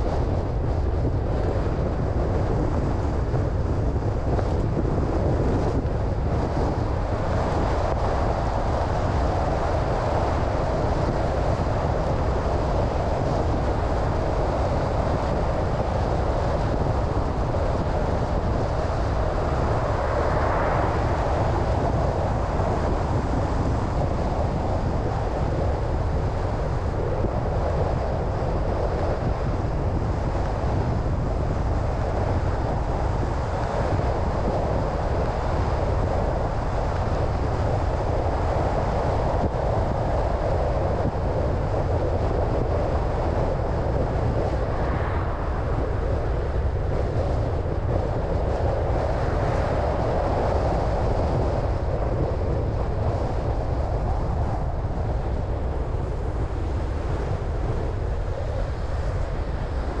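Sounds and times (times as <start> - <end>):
car road and wind noise: 0.0 - 60.0.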